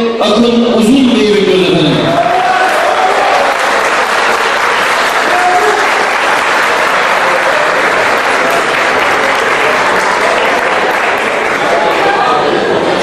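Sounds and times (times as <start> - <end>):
audience applauding: 2.1 - 13.0.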